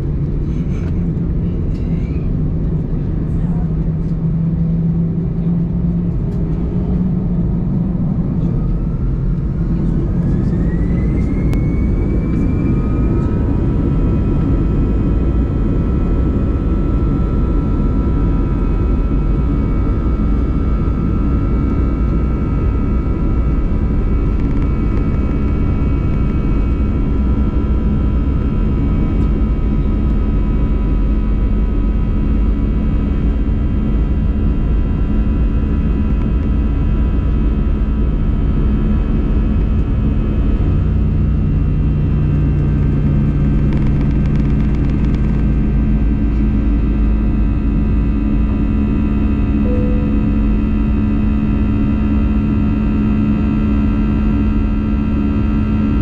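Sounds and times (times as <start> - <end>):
jet engine whine rising: 0.0 - 56.0
low cabin engine rumble: 0.0 - 56.0.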